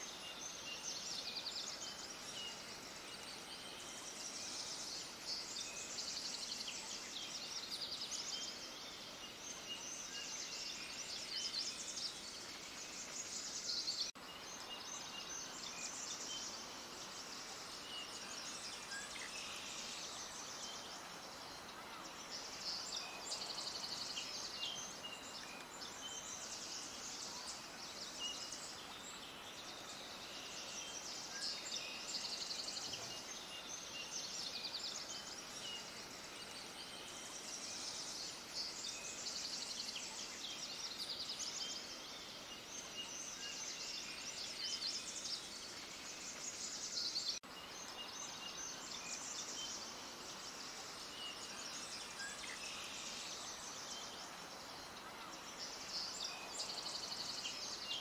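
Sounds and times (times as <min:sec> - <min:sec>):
faint background hiss: 0:00.0 - 0:58.0
small birds chirping: 0:00.0 - 0:58.0.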